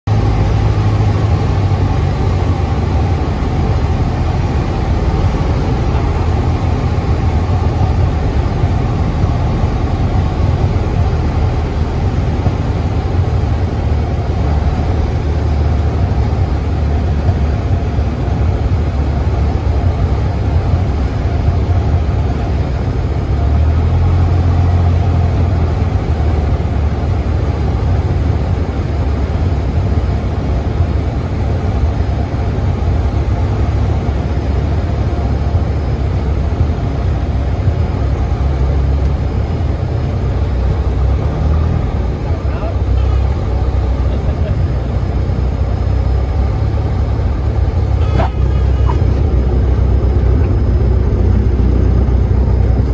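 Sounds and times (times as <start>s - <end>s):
light aircraft engine droning: 0.1s - 52.9s.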